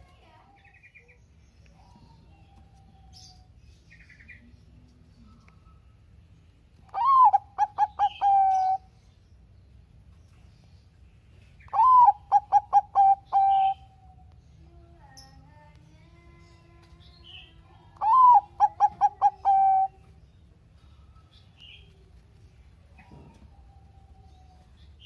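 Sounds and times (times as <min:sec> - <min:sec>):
dove singing: 0:00.0 - 0:25.0.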